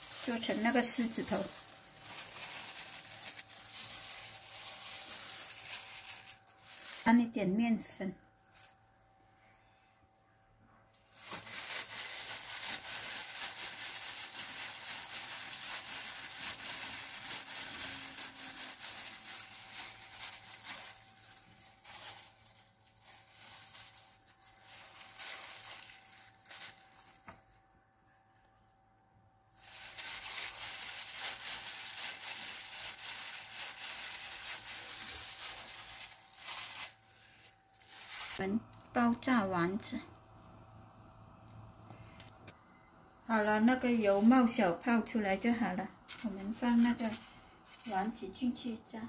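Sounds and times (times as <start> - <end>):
plastic gloves crinkling: 0.0 - 9.5, 10.1 - 28.8, 29.4 - 39.4, 43.8 - 48.6.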